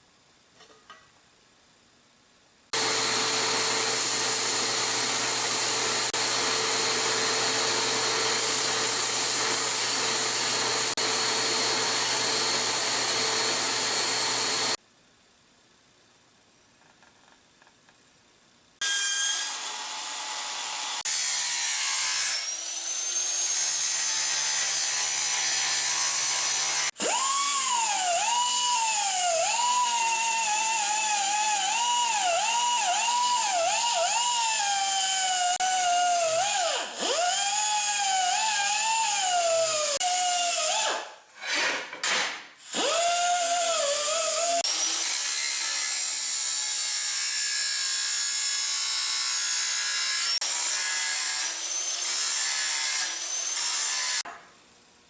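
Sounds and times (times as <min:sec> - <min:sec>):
power tool cutting steel: 0:02.8 - 0:14.8, 0:18.8 - 0:41.8, 0:42.6 - 0:54.3.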